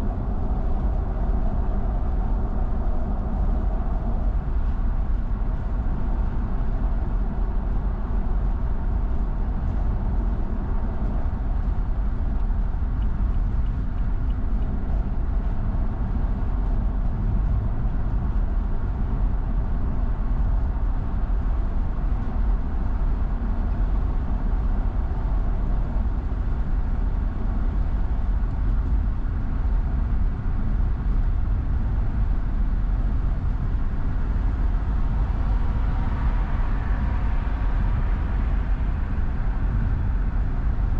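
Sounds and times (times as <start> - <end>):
car tyre and engine rumble: 0.0 - 40.9.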